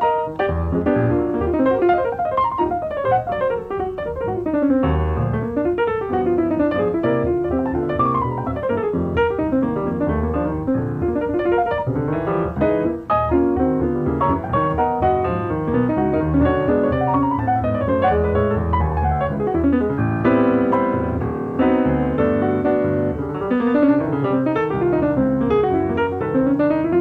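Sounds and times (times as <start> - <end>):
solo jazz piano: 0.0 - 27.0.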